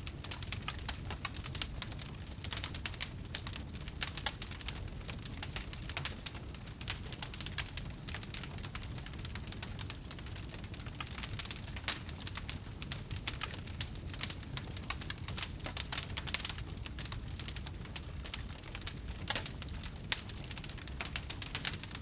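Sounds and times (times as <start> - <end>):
bonfire crackling and popping: 0.0 - 22.0
low fire rumble: 0.0 - 22.0.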